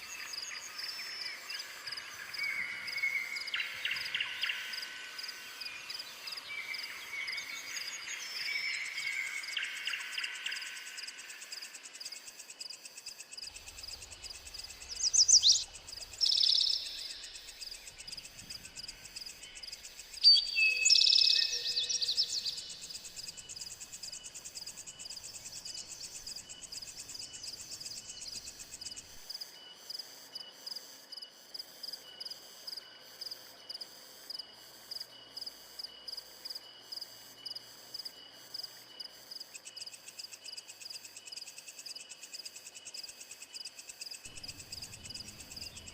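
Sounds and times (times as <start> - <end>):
crickets and cicadas chirring: 0.0 - 45.9.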